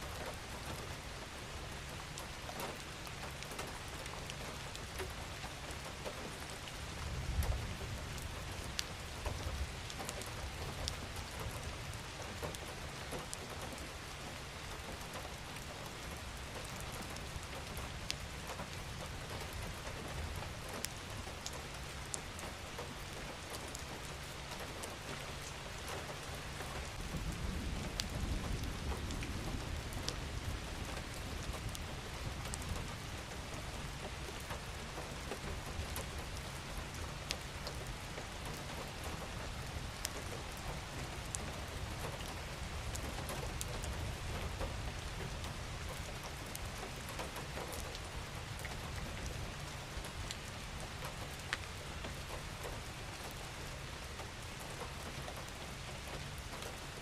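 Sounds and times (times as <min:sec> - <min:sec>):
raindrops ticking: 0:00.0 - 0:57.0
steady rain hiss: 0:00.0 - 0:57.0.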